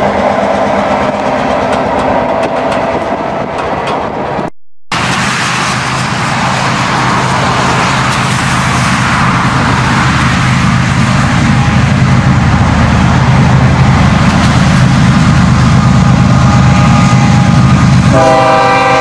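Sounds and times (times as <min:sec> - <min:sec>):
diesel locomotive rumbling: 0:00.0 - 0:19.0
highway traffic passing: 0:00.0 - 0:19.0.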